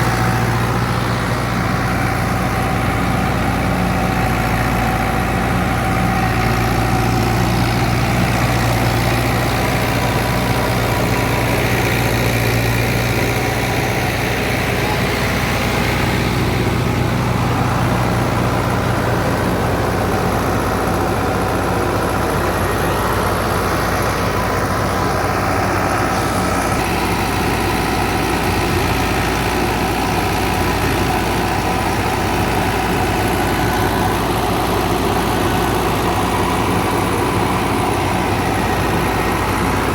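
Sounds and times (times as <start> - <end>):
thresher machine noise: 0.0 - 39.9
tractor diesel engine running: 0.0 - 39.9.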